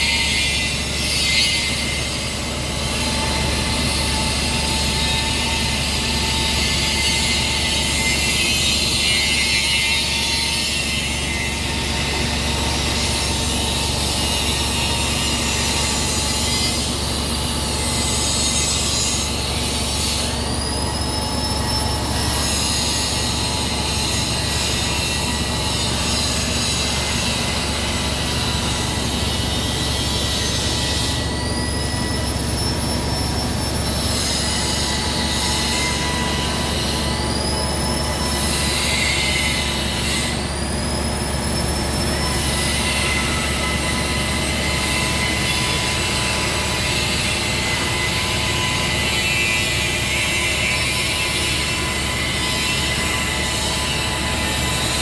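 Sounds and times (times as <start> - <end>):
high machine whine: 0.0 - 55.0.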